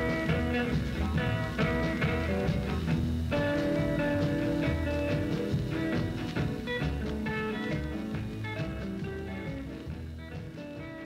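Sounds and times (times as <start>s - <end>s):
guitar-led instrumental music: 0.0s - 11.0s
steady bass line: 0.0s - 11.0s.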